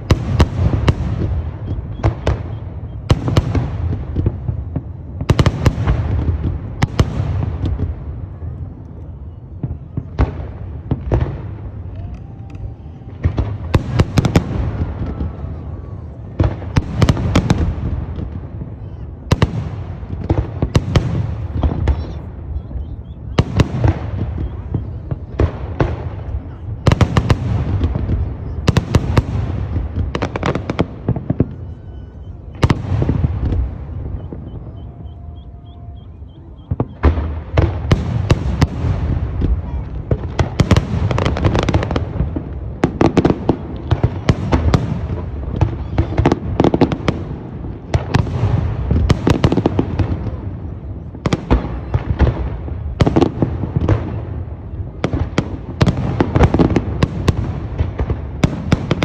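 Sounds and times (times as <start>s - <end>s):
fireworks booming and cracking: 0.0s - 59.0s.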